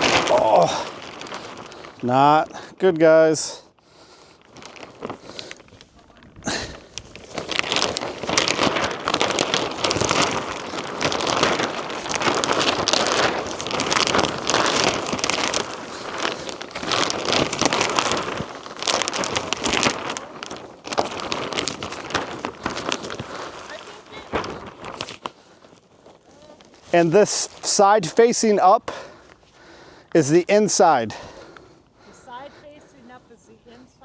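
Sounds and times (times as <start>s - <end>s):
plastic film flapping in wind: 0.0s - 34.0s.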